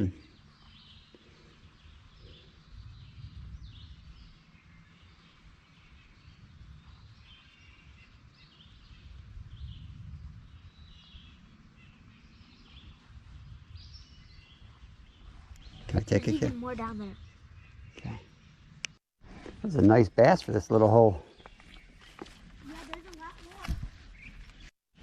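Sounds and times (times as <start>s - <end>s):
faint birds chirping: 0.0s - 24.7s.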